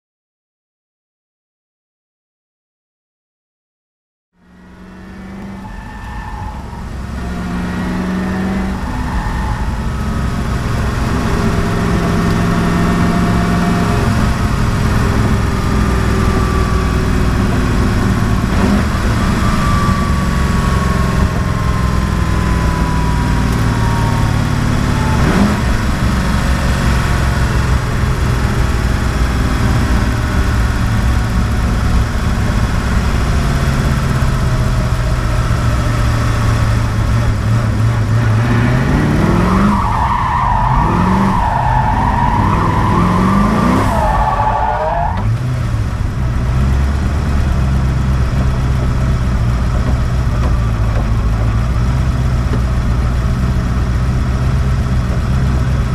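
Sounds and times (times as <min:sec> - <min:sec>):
car engine running: 0:04.4 - 0:55.9.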